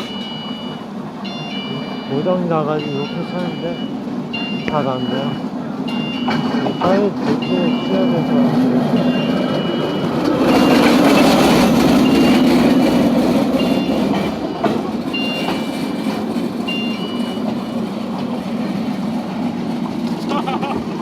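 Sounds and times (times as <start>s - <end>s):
level crossing warning beeps: 0.0s - 18.9s.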